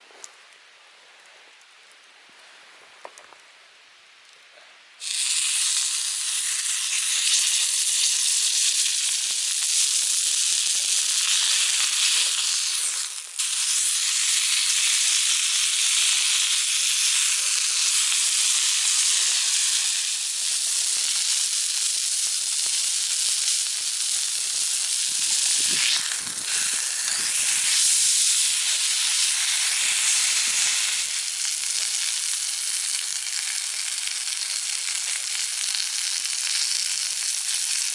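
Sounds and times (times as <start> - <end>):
meat sizzling in a skillet: 5.0 - 37.9.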